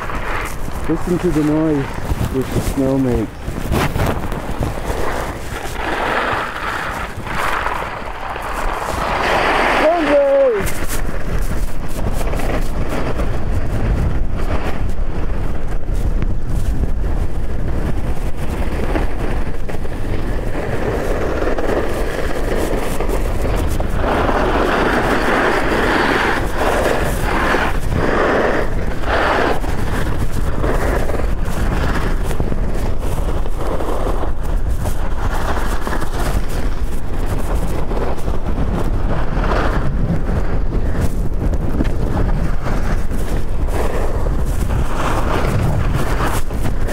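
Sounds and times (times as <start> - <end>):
skis scraping over snow: 0.0 - 46.9
wind buffeting microphone: 0.0 - 46.9.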